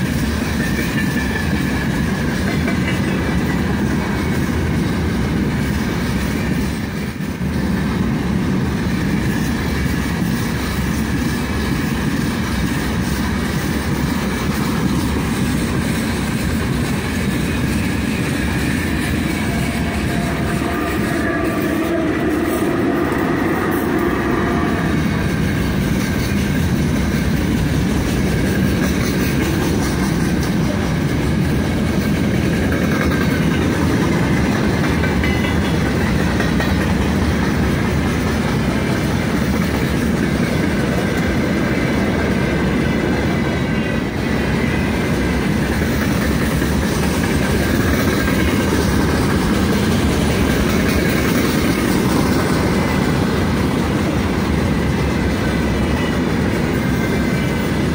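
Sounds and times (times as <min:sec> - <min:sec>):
steel wheels running on rails: 0:00.0 - 0:57.9.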